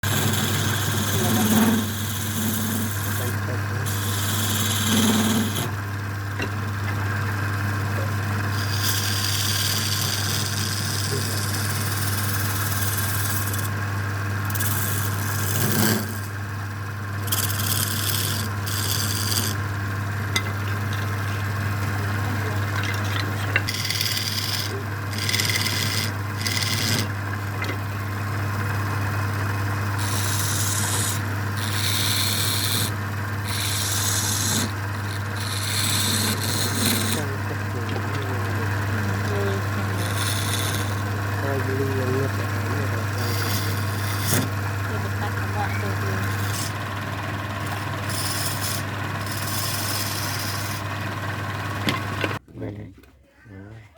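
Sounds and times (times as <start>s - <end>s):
wood being sanded: 0.0s - 5.8s, 7.9s - 16.5s, 17.1s - 27.2s, 29.9s - 52.0s.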